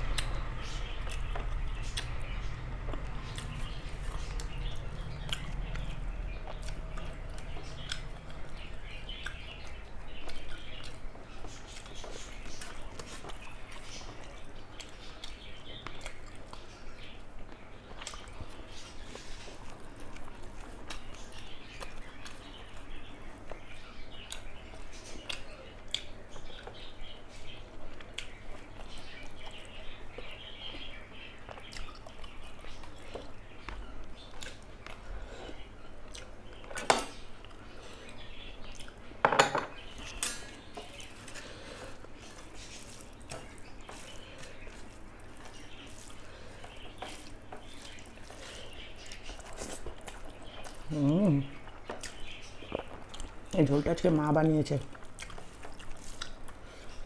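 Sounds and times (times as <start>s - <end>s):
soft chewing: 0.0s - 57.0s.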